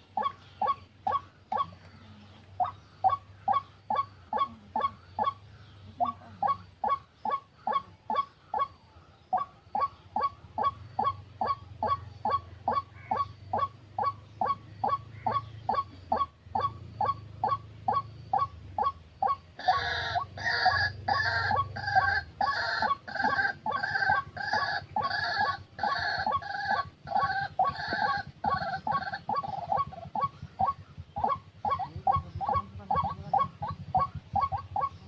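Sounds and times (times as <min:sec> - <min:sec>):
faint low hum: 0:00.0 - 0:35.0
waterhen calls: 0:00.0 - 0:35.0.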